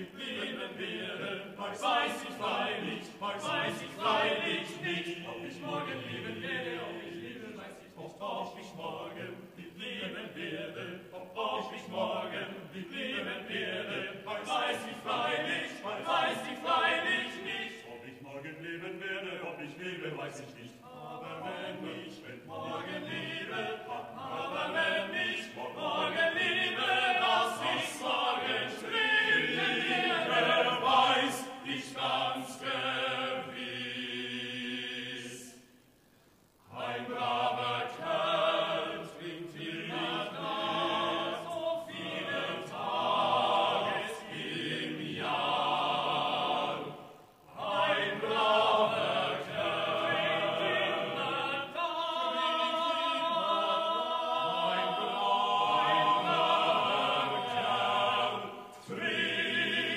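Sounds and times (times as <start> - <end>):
male choir singing a cappella: 0.0 - 35.8, 36.6 - 59.9.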